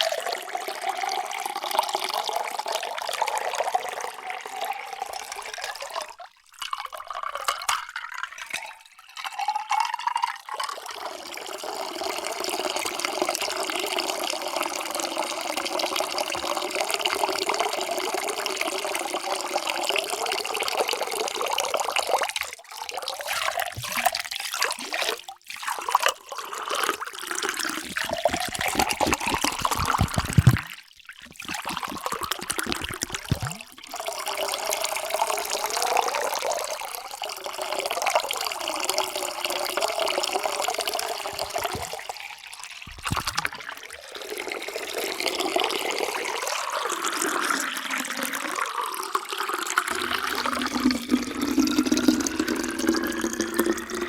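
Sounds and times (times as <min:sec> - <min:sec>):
water pouring into a container: 0:00.0 - 0:54.0.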